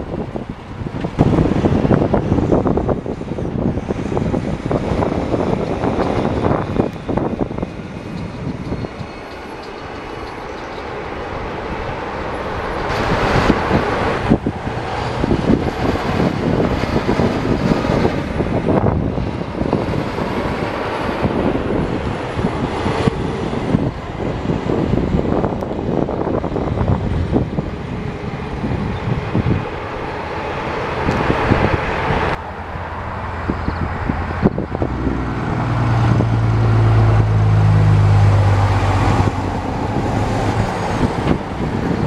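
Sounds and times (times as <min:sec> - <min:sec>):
trucks and cars passing: 0:00.0 - 0:42.0.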